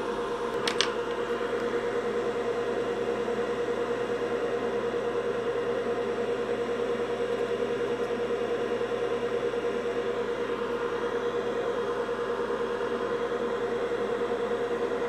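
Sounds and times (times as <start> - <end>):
electric fan whirring: 0.0 - 15.0.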